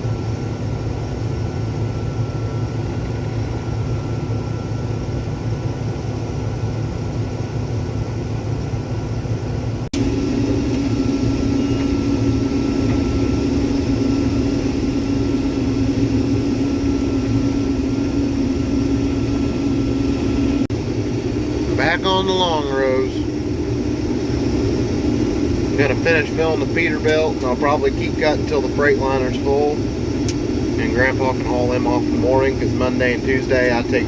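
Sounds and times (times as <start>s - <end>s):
combine harvester engine drone: 0.0s - 34.0s
steady machine hum: 0.0s - 34.0s.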